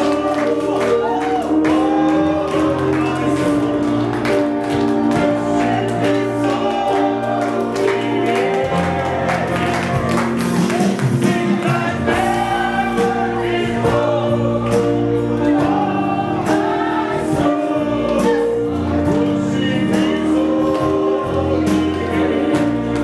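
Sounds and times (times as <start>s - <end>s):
held instrumental chords: 0.0s - 23.0s
voices singing together: 0.0s - 23.0s.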